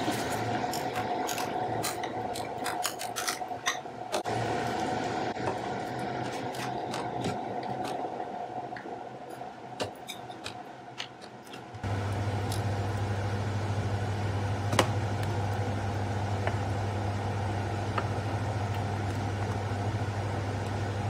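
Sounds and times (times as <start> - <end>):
steady hum and whine: 0.0 - 21.0.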